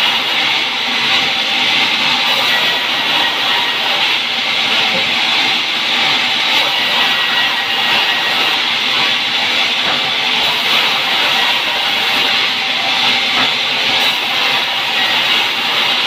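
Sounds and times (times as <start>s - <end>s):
band saw cutting wood: 0.0s - 16.0s.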